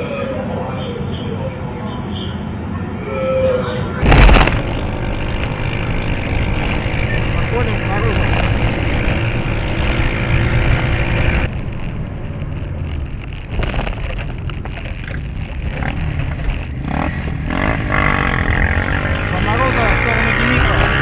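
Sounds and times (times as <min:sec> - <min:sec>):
car engine and road noise: 0:04.0 - 0:21.0.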